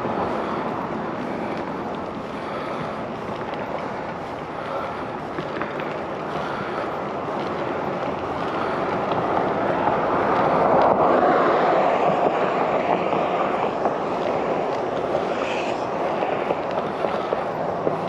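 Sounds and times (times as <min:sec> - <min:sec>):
bike tyre noise: 0:00.0 - 0:18.0
wind buffeting microphone: 0:00.0 - 0:18.0.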